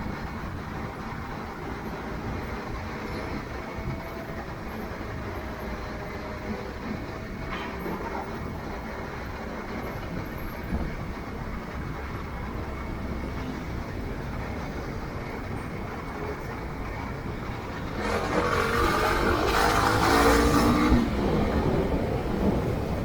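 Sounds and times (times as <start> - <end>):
motorcycle engine rumble: 0.0 - 23.0
wind noise: 0.0 - 23.0.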